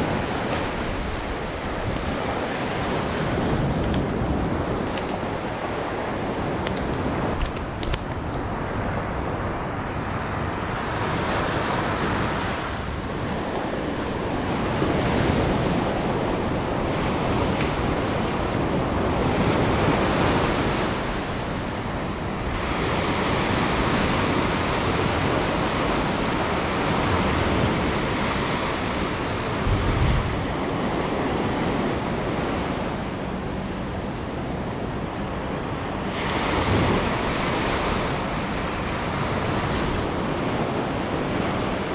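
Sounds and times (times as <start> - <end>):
ocean surf breaking on sand: 0.0 - 41.9
wind on microphone: 0.0 - 41.9.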